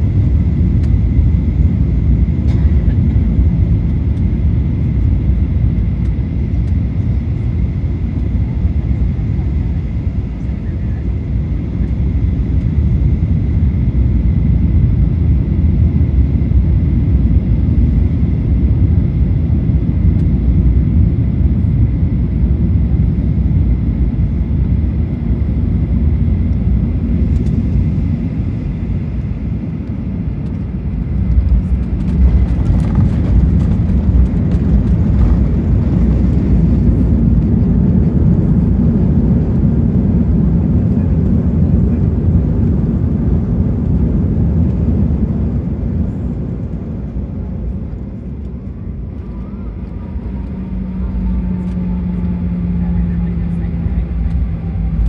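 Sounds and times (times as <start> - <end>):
jet engine and airflow rumble: 0.0 - 55.0.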